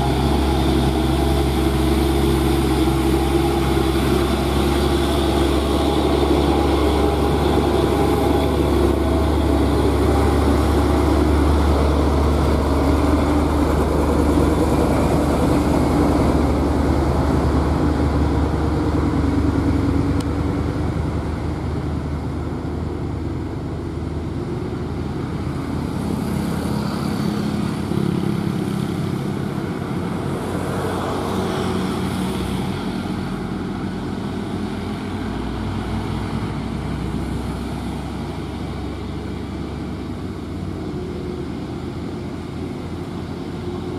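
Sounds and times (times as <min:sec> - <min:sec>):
approaching truck engines: 0:00.0 - 0:43.9
truck diesel engine passing: 0:00.0 - 0:43.9.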